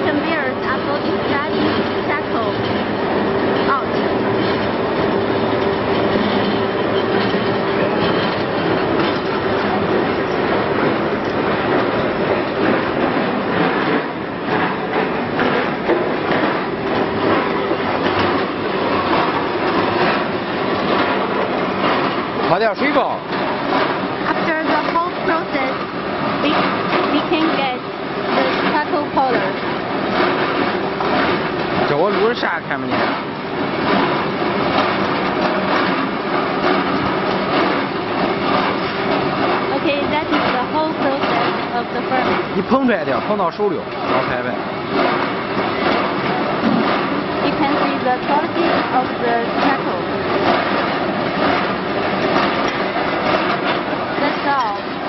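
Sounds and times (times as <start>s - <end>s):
machinery running: 0.0s - 55.0s
rattling knocks: 0.0s - 55.0s.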